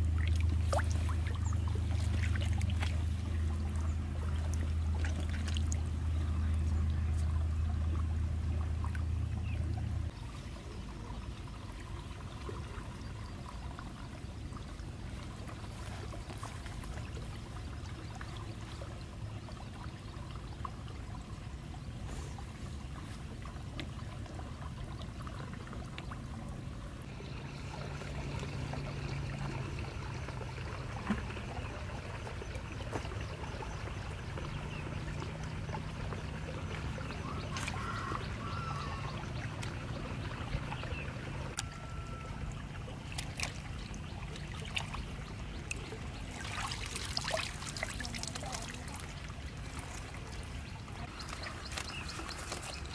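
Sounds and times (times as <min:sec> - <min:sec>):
shallow water trickling: 0:00.0 - 0:52.9.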